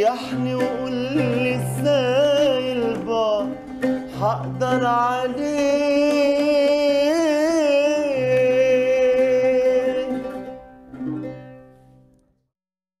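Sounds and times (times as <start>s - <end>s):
plucked string accompaniment: 0.0s - 12.5s.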